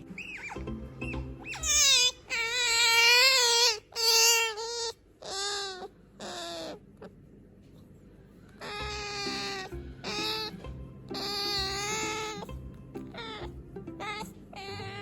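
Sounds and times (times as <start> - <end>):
otter squeaky cries: 0.0 - 7.2, 8.5 - 15.0.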